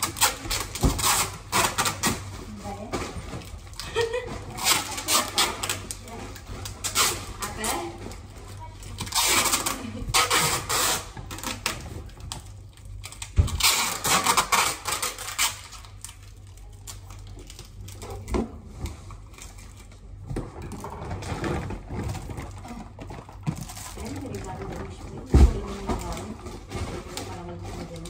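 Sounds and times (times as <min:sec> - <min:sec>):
plastic packaging rustling: 0:00.0 - 0:28.0.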